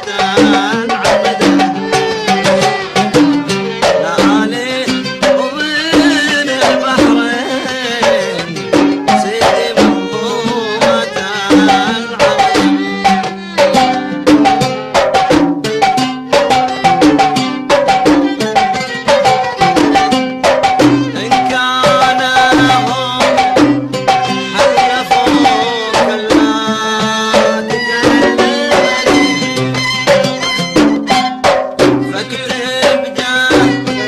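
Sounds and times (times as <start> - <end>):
hand drums rhythm: 0.0 - 34.0
plucked string notes: 0.0 - 34.0
violin melody: 0.0 - 34.0.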